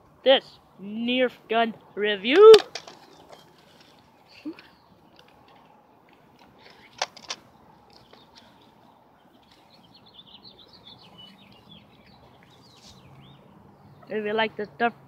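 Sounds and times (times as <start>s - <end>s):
bird chirping: 1.9s - 5.8s, 6.5s - 14.9s.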